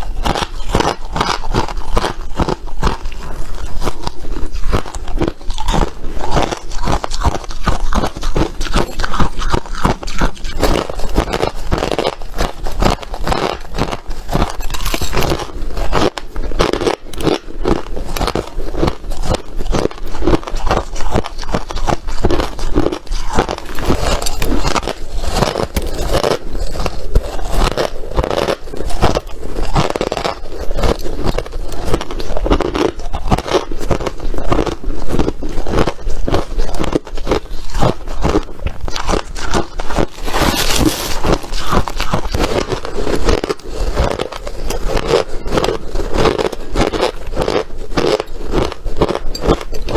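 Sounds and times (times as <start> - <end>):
person chewing crunchy ice: 0.0 - 49.9.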